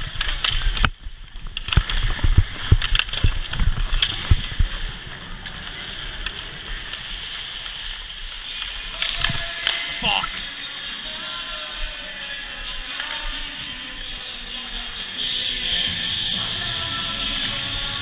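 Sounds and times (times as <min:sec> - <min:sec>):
skates scraping on ice: 0:00.0 - 0:15.4.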